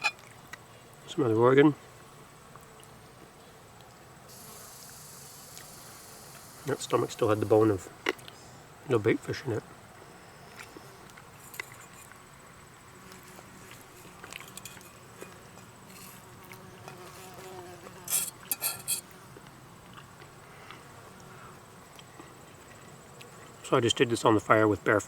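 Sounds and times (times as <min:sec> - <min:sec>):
insect buzzing: 0:02.0 - 0:08.8, 0:10.0 - 0:23.6.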